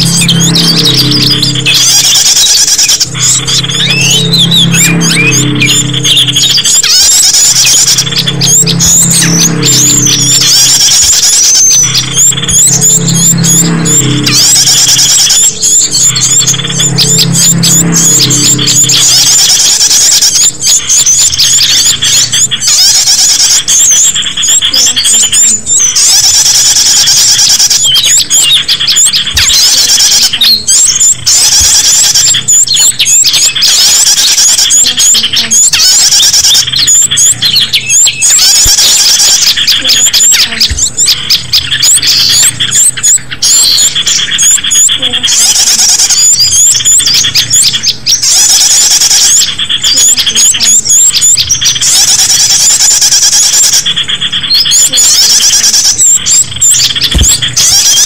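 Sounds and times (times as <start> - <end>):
shrill high-pitched bird chirping: 0.0 - 58.0.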